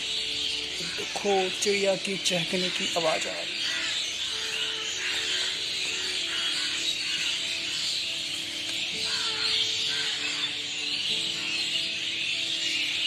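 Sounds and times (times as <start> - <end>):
chorus of birds chirping: 0.0 - 13.0.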